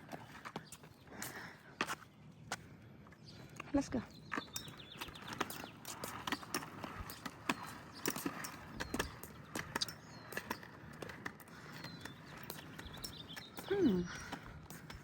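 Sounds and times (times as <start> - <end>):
footsteps on a trail: 0.0 - 15.0.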